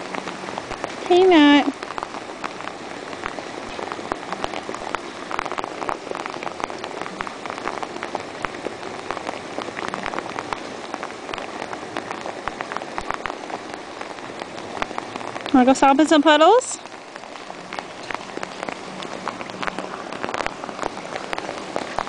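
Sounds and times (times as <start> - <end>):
rain drops ticking on hard surfaces: 0.0 - 22.0.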